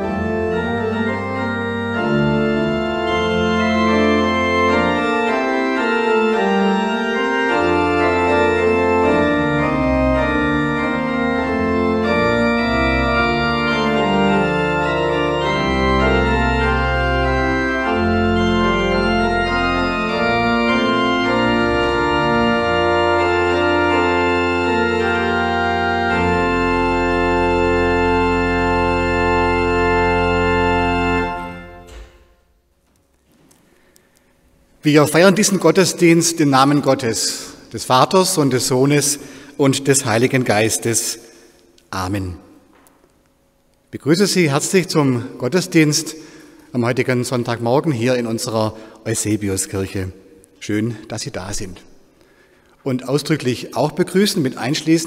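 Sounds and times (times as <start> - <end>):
church organ chords: 0.0 - 55.0.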